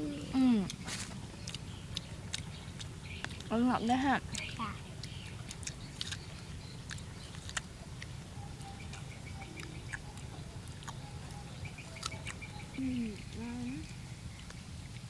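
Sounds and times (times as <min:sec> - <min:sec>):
low steady rumble: 0:00.0 - 0:15.0
person chewing crunchy fruit: 0:00.1 - 0:03.6, 0:04.2 - 0:15.0.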